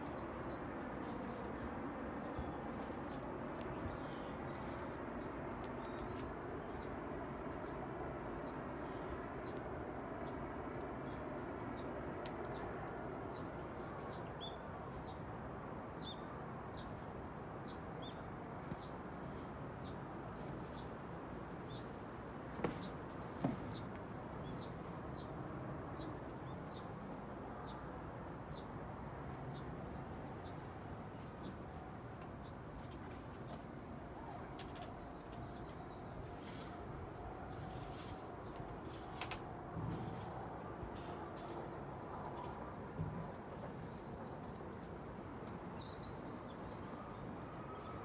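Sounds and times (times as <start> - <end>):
outdoor background rush: 0.0 - 48.0.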